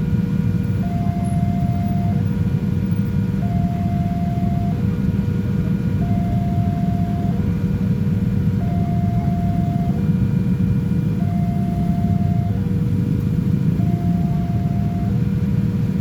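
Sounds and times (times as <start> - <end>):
continuous low rumble: 0.0 - 16.0
alternating electronic warning tones: 0.1 - 16.0.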